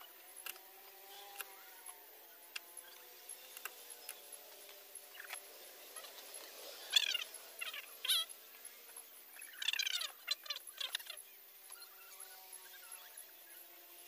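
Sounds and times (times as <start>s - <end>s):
faint wavering hum: 0.0s - 14.0s.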